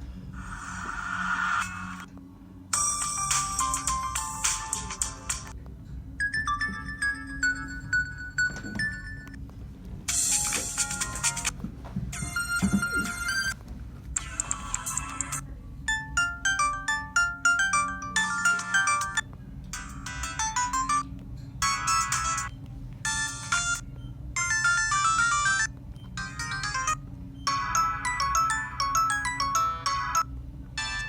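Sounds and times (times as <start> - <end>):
polyphonic ringtone melodies: 2.7 - 5.5, 6.2 - 9.4, 10.1 - 13.6, 14.2 - 31.0.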